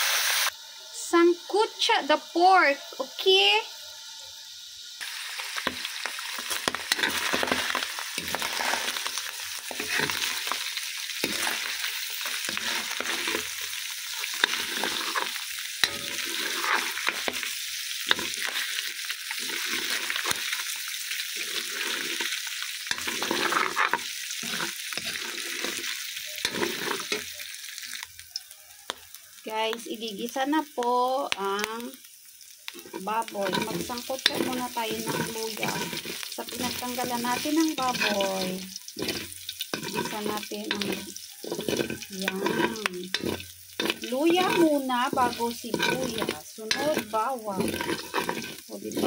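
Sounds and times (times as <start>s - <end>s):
meat sizzling in a wok: 0.0s - 49.0s
metal ladle scraping a pan: 5.5s - 28.5s, 32.7s - 49.0s.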